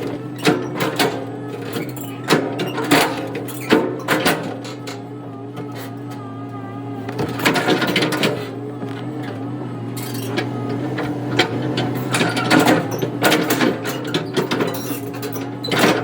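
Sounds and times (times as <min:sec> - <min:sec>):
metallic clanks and rattles: 0:00.0 - 0:06.2, 0:07.1 - 0:16.0
machinery engine running: 0:00.0 - 0:16.0.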